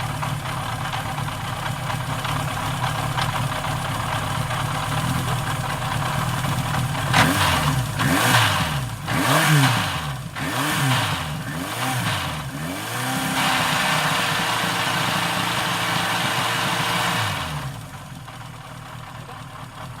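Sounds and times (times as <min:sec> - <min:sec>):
motorcycle engine revving: 0:00.0 - 0:18.4.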